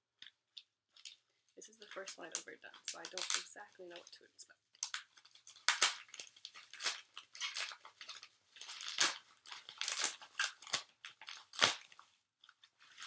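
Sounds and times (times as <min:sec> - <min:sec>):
wrapping paper crinkling: 0:00.9 - 0:04.2, 0:04.8 - 0:13.0.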